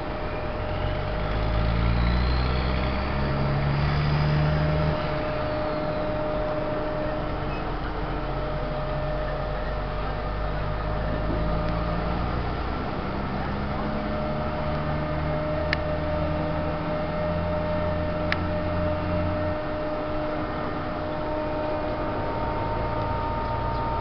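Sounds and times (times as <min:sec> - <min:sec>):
engine droning: 0:00.0 - 0:24.0.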